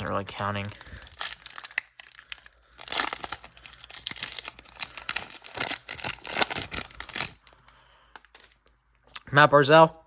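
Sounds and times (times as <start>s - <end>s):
wrapper crinkling and tearing: 0.0s - 8.6s
cards rustling: 0.0s - 8.8s.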